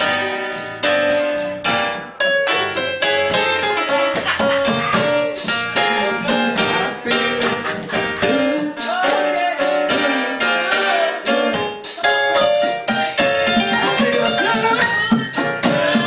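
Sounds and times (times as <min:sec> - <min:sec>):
instrumental accompaniment with beat: 0:00.0 - 0:16.0.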